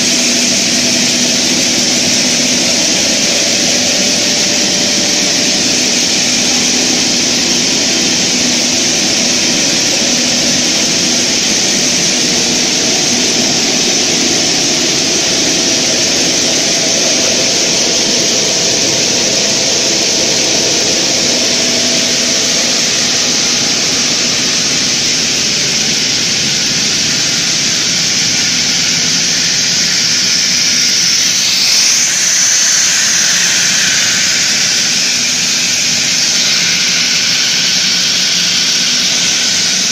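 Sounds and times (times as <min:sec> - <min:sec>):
wire drawing machine whirring: 0:00.0 - 0:39.9.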